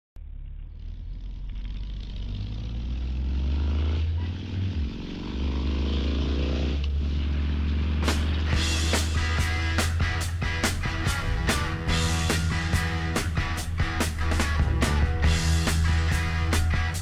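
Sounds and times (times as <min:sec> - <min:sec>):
motorcycle engine accelerating: 0:00.2 - 0:17.0.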